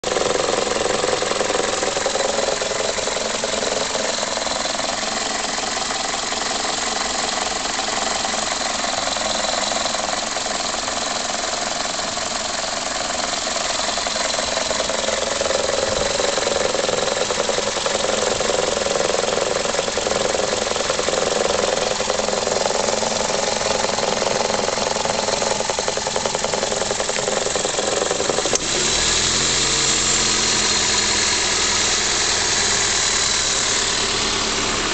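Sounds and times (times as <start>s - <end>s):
car engine idling rough: 0.0s - 34.9s.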